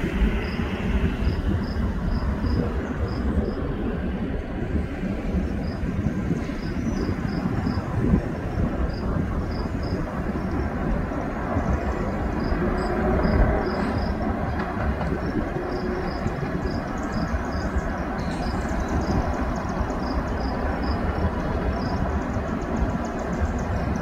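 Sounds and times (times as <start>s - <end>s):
diesel locomotive rumbling: 0.0s - 24.0s.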